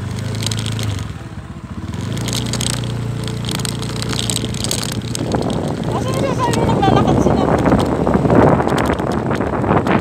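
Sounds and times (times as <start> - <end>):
motorcycle engine running: 0.0 - 10.0
crackling: 1.9 - 10.0.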